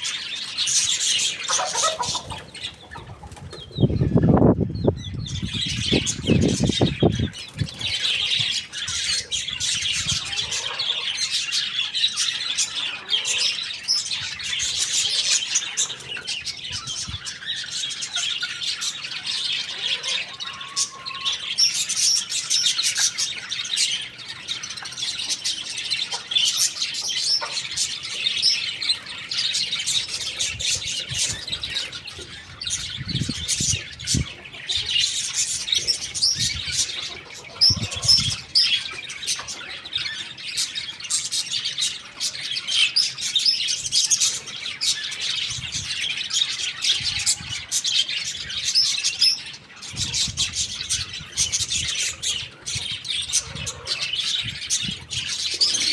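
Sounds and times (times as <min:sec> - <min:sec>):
young chickens chirping: 0:00.0 - 0:55.9.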